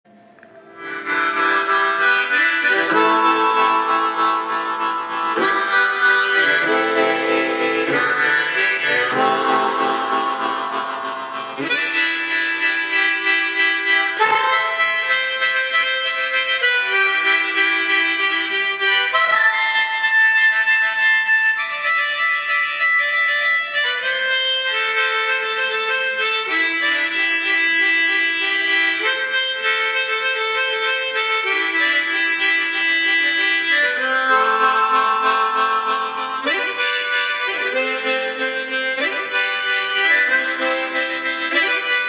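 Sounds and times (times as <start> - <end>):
harmonica melody: 0.1 - 42.0.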